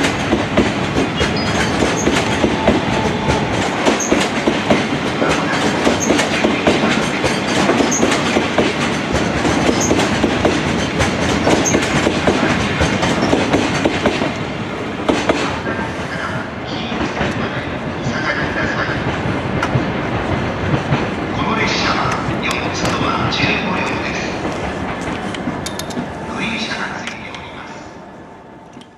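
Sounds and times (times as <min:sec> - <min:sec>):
train wheels clicking on rails: 0:00.0 - 0:16.1, 0:16.8 - 0:27.5.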